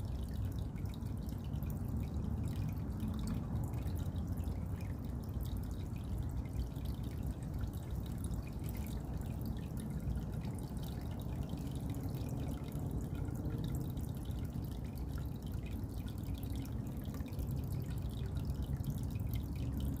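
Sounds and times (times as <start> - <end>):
water dripping: 0.0 - 20.0.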